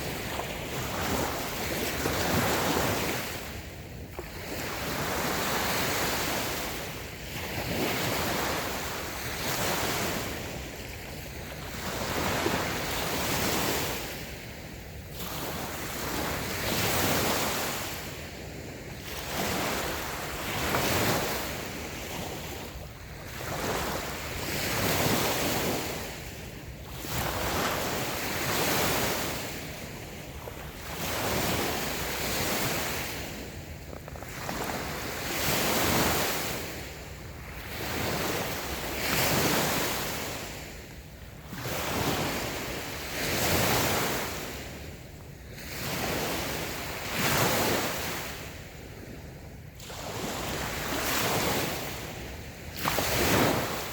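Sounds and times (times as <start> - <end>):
waves breaking on sandy beach: 0.0 - 53.9
wind on microphone: 0.0 - 53.9.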